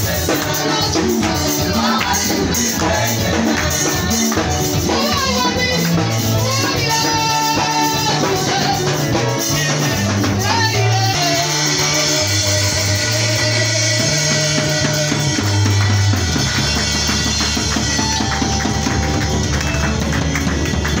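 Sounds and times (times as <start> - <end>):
bass guitar long notes: 0.0 - 21.0
drum kit beat: 0.0 - 21.0.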